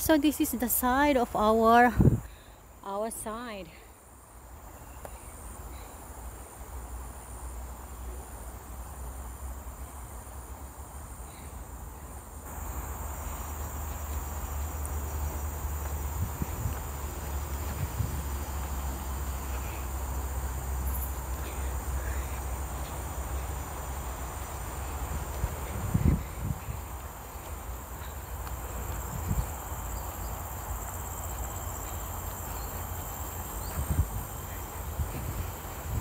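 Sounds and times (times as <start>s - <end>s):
insects trilling: 0.0s - 36.0s.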